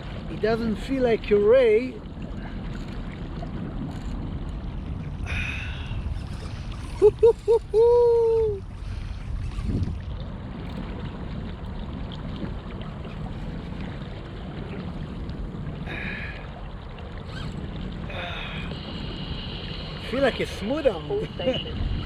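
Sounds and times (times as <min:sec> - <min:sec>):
water rushing against kayak: 0:00.0 - 0:22.0
wind buffeting microphone: 0:00.0 - 0:22.0.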